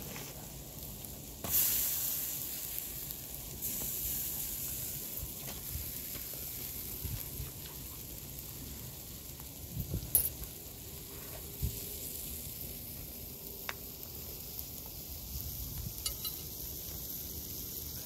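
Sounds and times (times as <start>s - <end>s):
food sizzling: 0.0s - 18.0s.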